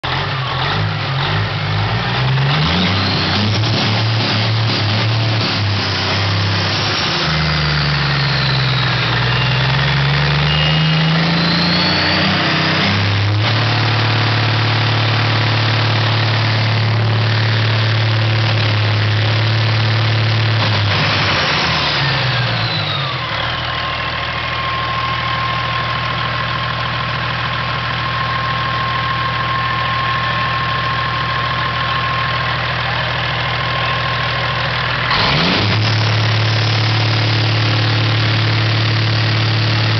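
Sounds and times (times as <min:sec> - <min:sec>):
diesel engine idling: 0:00.0 - 0:39.9
high whine: 0:00.0 - 0:39.9.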